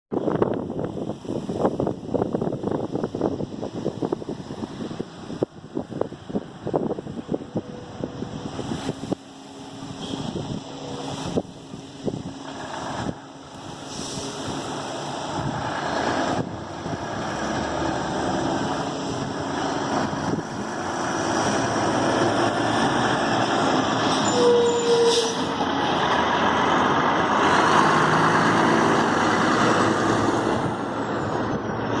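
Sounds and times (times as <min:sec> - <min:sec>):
heavy diesel truck running: 0:00.1 - 0:32.0.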